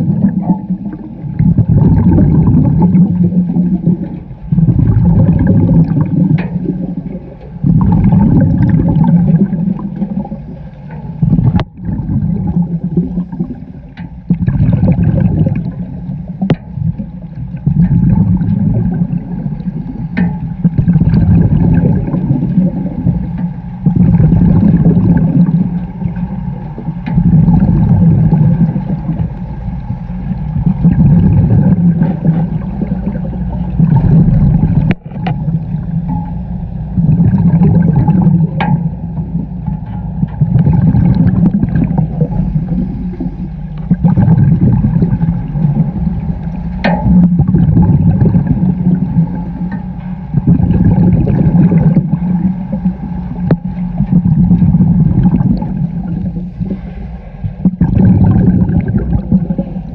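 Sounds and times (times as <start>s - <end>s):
underwater exhaled bubbles rushing: 0.0s - 59.9s.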